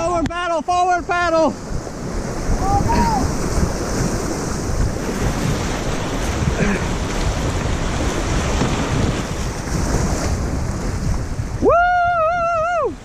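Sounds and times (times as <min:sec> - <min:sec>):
whitewater rushing: 0:00.0 - 0:13.0
wind buffeting microphone: 0:00.0 - 0:13.0.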